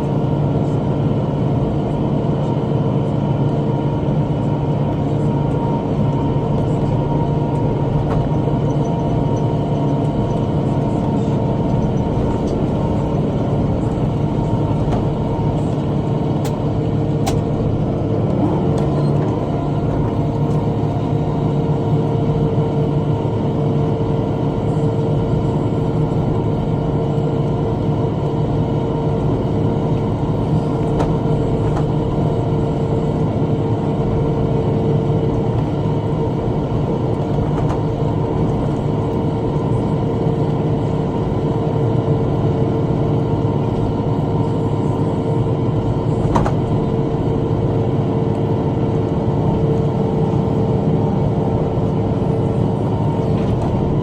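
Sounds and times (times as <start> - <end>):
tractor engine drone: 0.0 - 54.0.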